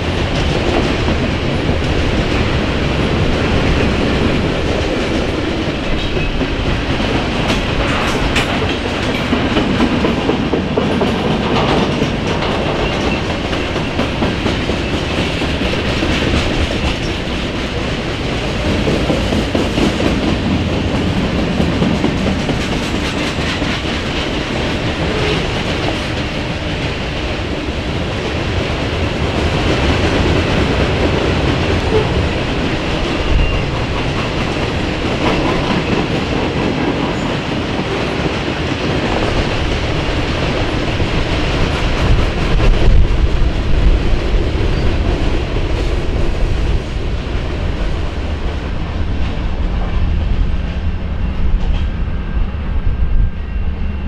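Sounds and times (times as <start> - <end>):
train wheels clacking: 0.0 - 52.4.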